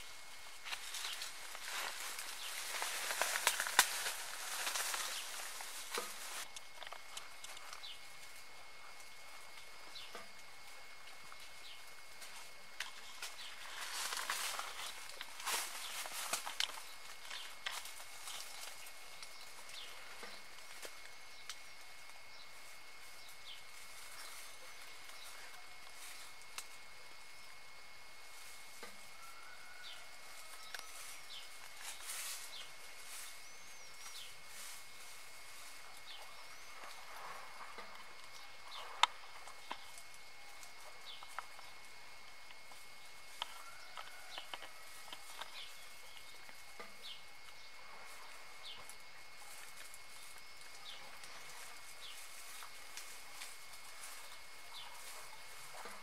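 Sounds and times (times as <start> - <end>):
dry leaves crackling: 0.0 - 27.4, 28.2 - 56.0
steady high hiss: 0.0 - 56.0.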